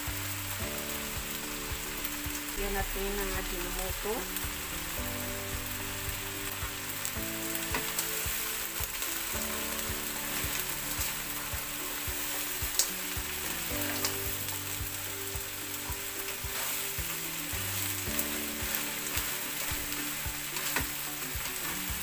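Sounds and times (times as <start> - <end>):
crabs sizzling in hot oil: 0.0 - 22.0.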